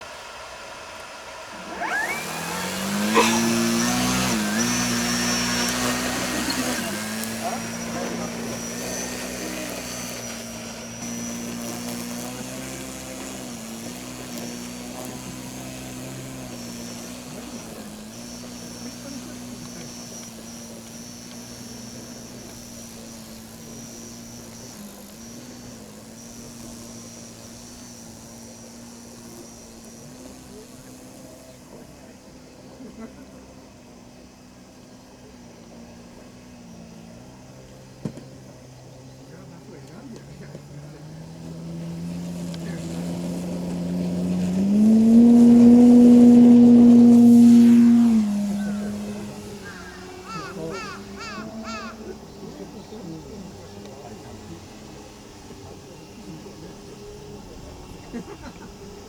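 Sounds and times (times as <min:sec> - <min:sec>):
model airplane motor whine: 0:00.0 - 0:59.0.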